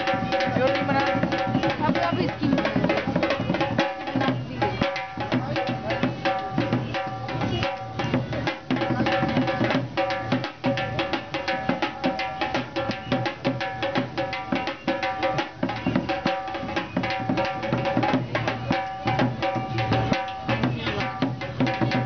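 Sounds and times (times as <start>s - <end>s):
barrel drum played by hand: 0.0s - 22.0s.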